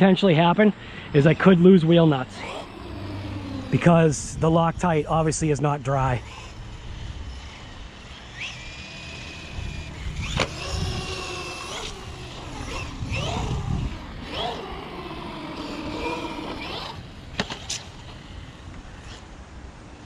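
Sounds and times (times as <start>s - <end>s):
electric motor whining: 1.4s - 19.2s.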